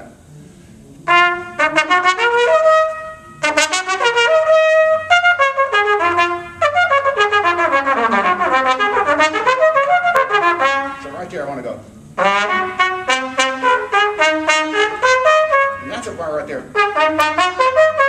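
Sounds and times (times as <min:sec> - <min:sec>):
solo trumpet playing fast runs: 0:01.1 - 0:11.3, 0:12.2 - 0:18.0.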